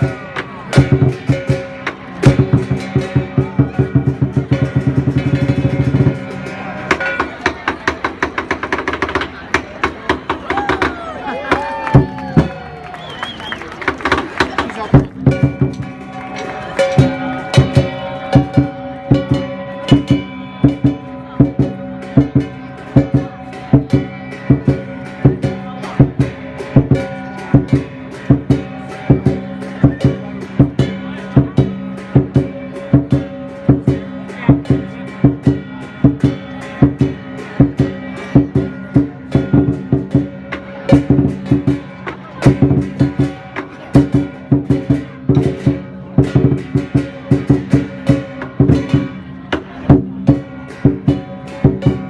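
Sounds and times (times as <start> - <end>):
music with sharp beat: 0.0 - 12.6, 13.8 - 52.0.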